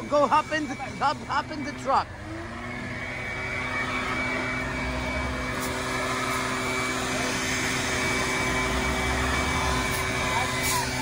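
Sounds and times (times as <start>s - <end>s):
truck engine whining and rumbling: 0.0s - 11.0s.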